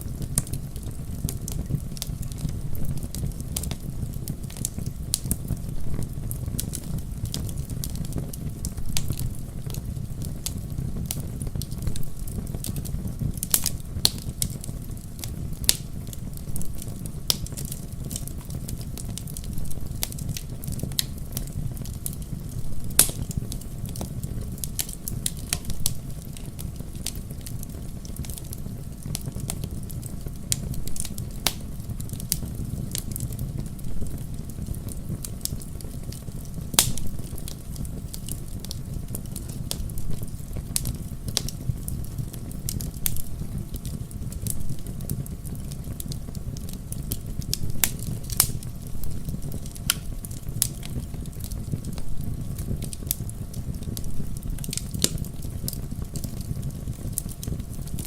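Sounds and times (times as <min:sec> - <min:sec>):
fire crackling and popping: 0:00.0 - 0:58.0
fire flames rumbling: 0:00.0 - 0:58.0.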